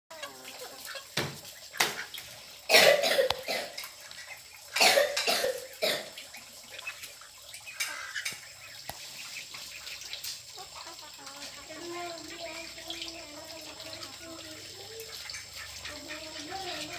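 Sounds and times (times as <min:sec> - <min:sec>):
ducks quacking: 0:00.1 - 0:16.9.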